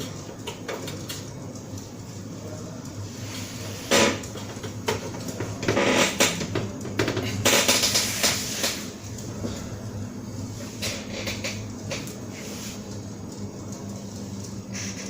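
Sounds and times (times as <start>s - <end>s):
server fans humming: 0.0s - 15.0s.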